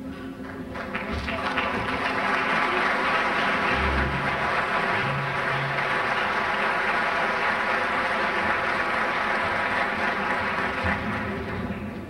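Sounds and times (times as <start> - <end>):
audience applause: 0.4 - 12.0.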